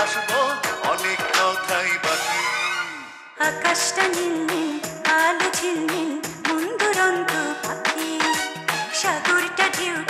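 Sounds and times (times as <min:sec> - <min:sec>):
percussive beat: 0:00.0 - 0:02.3, 0:03.5 - 0:10.0.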